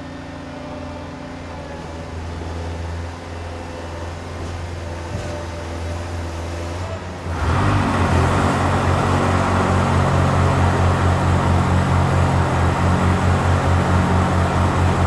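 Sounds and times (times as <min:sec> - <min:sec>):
ice resurfacer engine throbbing: 0:00.0 - 0:15.0.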